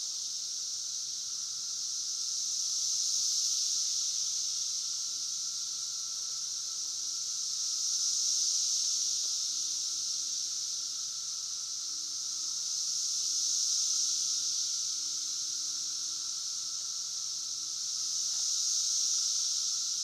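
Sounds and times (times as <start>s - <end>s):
cicadas buzzing: 0.0s - 20.0s.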